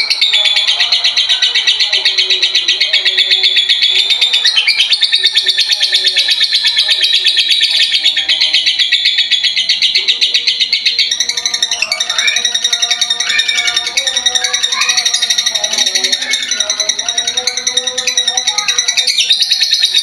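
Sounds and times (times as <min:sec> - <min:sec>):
faint music: 0:00.0 - 0:20.0
lovebird chattering chirps: 0:00.0 - 0:20.0.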